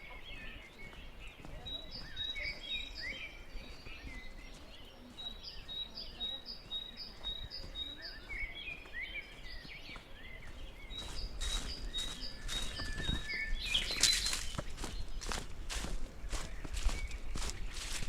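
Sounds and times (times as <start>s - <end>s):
footsteps on trail: 0.0s - 18.0s
lower bird chirping: 0.0s - 18.0s.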